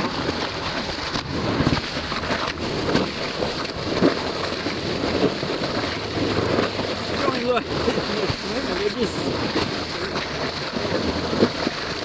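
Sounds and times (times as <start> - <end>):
muffled rushing water underwater: 0.0 - 12.0.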